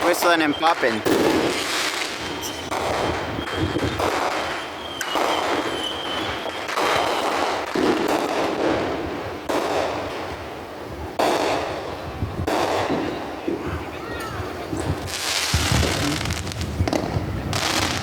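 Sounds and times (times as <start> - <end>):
whistling firework: 0.0 - 10.1, 11.2 - 13.8, 14.8 - 18.0
firework bangs with crackling: 0.0 - 18.0.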